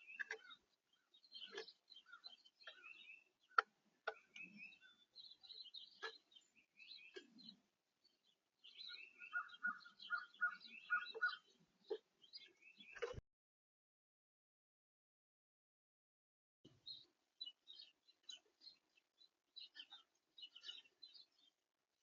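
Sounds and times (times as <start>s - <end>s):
repeated bird call notes: 0.0s - 13.2s, 16.8s - 21.5s
small songbirds chirping: 0.0s - 13.2s, 16.7s - 22.0s.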